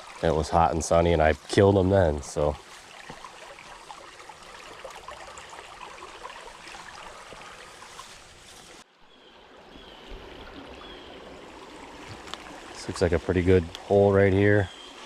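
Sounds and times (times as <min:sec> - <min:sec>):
creek babbling over stones: 0:00.0 - 0:15.0.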